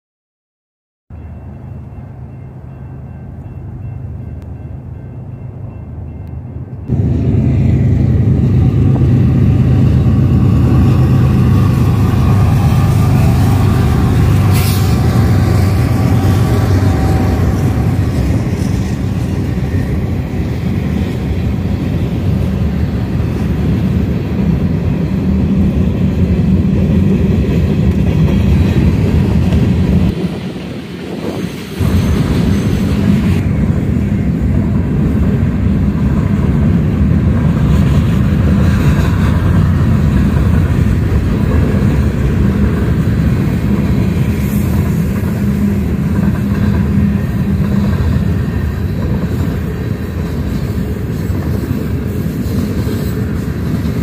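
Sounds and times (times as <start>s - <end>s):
diesel locomotive engine: 1.1s - 54.0s
train wheels clattering on rails: 6.2s - 54.0s.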